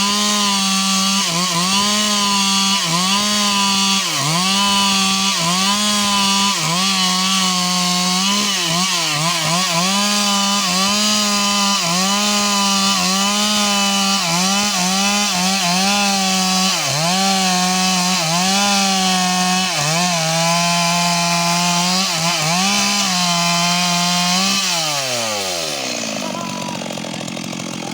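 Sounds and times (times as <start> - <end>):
chainsaw cutting wood: 0.0 - 27.9.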